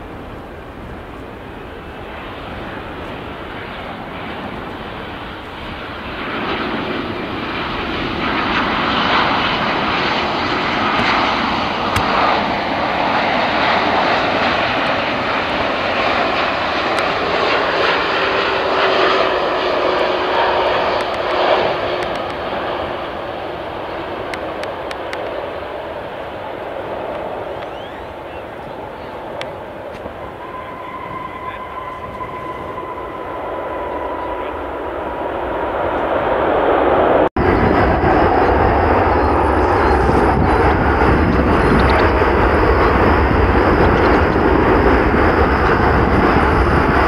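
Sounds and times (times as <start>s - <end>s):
jet airliner engines rushing: 0.0s - 47.0s.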